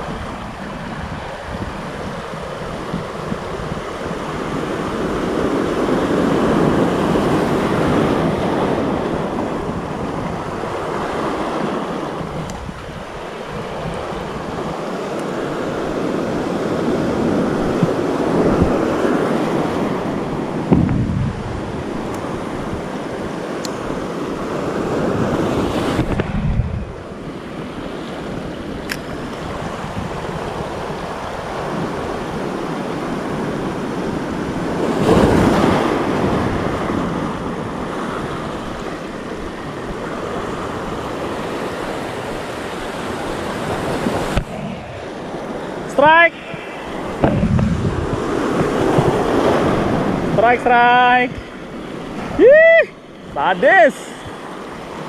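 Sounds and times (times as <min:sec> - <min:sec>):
surf breaking over rocks: 0:00.0 - 0:55.0
wind rumbling on microphone: 0:00.0 - 0:55.0.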